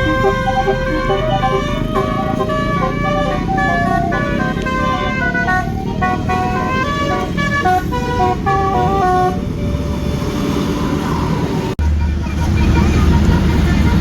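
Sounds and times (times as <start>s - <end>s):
bus musical horn tune: 0.0s - 10.2s, 11.8s - 14.0s
engine and traffic rumble: 0.0s - 14.0s.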